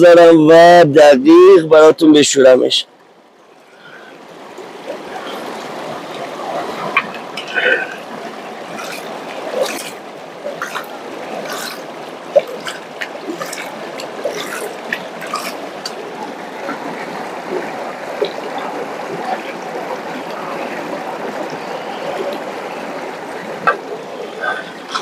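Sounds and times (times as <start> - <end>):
water sloshing in a pan: 3.6 - 25.0.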